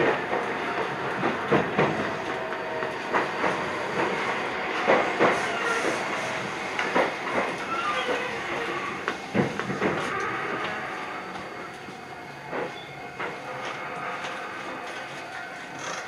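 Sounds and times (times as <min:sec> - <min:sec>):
steady train rumble: 0:00.0 - 0:16.0
train wheels clattering over joints: 0:00.0 - 0:16.0.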